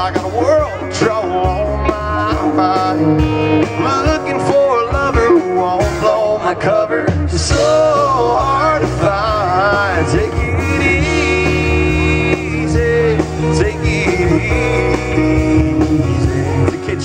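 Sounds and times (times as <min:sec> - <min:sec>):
bass: 0:00.0 - 0:17.0
drums: 0:00.0 - 0:17.0
guitar: 0:00.0 - 0:17.0
man singing: 0:00.0 - 0:17.0.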